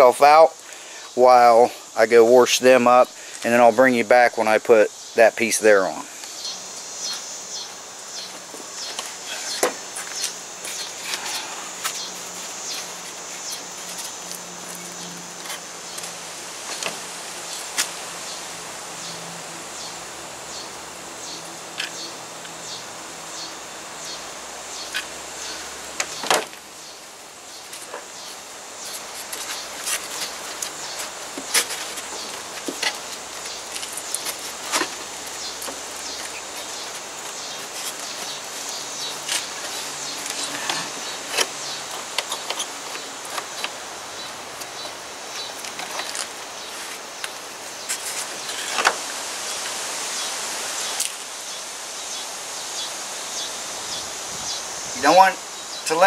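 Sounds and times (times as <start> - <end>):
steady outdoor hiss: 0.0 - 56.0.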